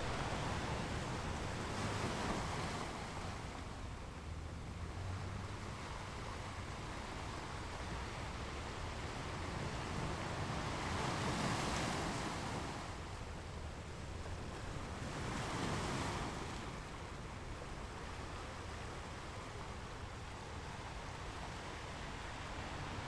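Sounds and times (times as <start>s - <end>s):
ocean waves washing onto shore: 0.0s - 23.0s.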